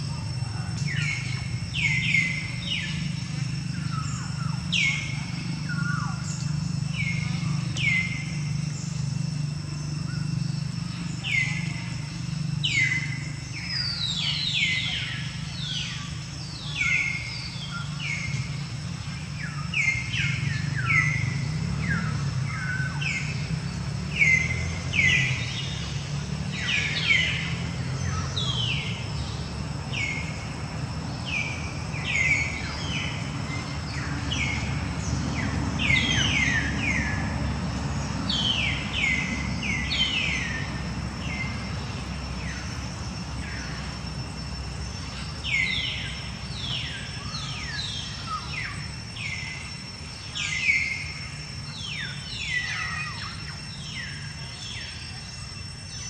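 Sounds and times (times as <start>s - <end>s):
birds chirping: 0.0s - 56.0s
faint high whine: 0.0s - 56.0s.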